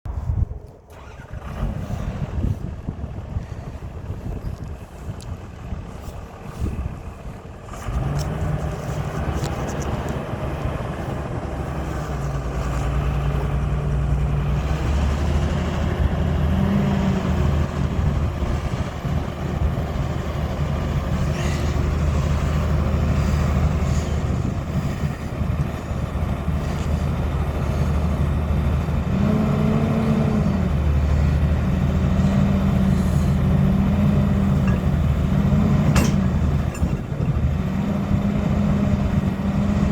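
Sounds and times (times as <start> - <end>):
excavator diesel engine running: 0.1 - 39.9.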